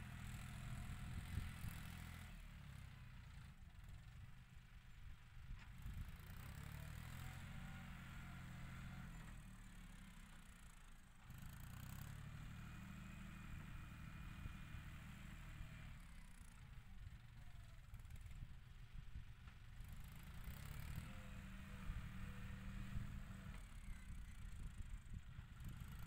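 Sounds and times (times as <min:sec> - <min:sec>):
faint tractor diesel engine: 0:00.0 - 0:26.0.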